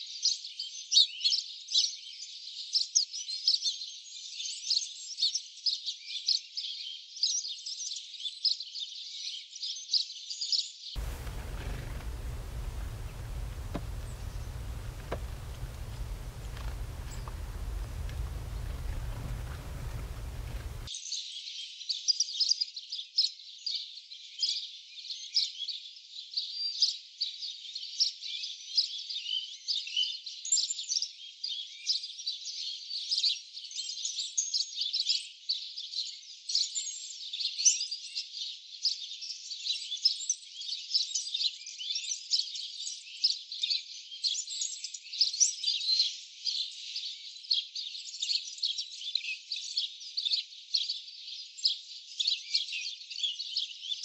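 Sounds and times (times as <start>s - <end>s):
small birds chirping and twittering: 0.0s - 25.4s, 35.8s - 54.0s.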